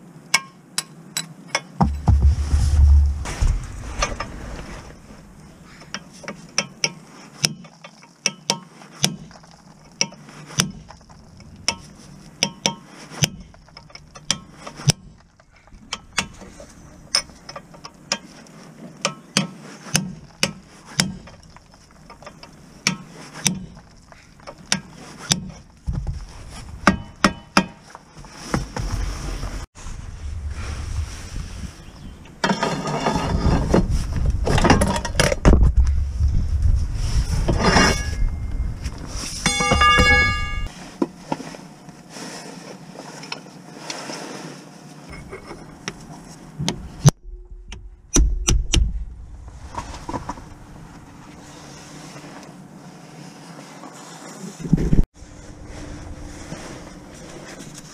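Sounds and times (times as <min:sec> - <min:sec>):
rustling and rumbling handling noise: 0:01.8 - 0:57.9.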